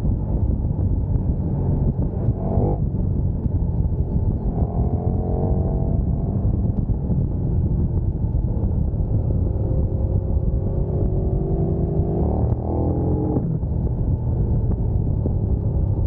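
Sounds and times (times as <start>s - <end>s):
motorcycle engine accelerating: 0.0s - 16.0s
wind and road rumble: 0.0s - 16.0s.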